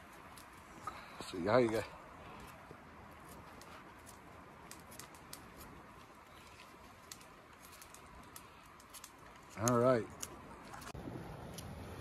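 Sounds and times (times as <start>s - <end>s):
knife shaving a branch: 0.0s - 11.8s.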